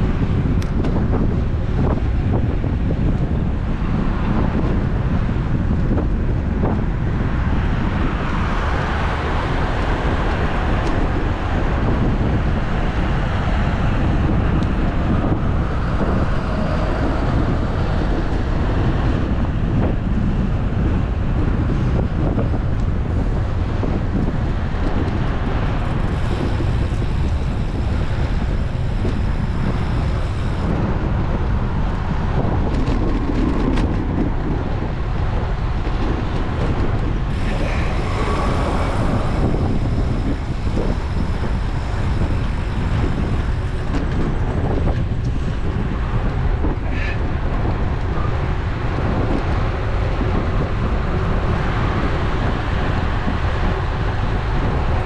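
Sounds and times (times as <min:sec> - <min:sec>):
road traffic noise: 0:00.0 - 0:55.0
wind buffeting microphone: 0:00.0 - 0:55.0.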